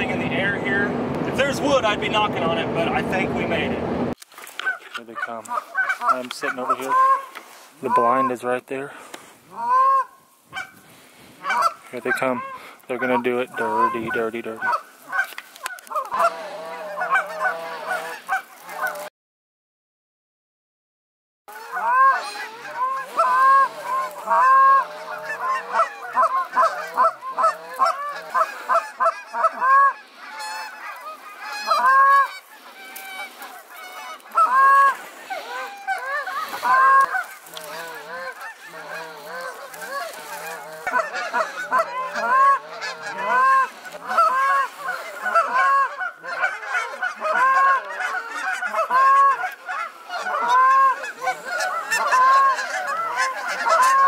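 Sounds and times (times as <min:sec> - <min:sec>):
flock of geese honking: 0:00.0 - 0:04.0, 0:04.6 - 0:19.1, 0:21.5 - 0:54.0.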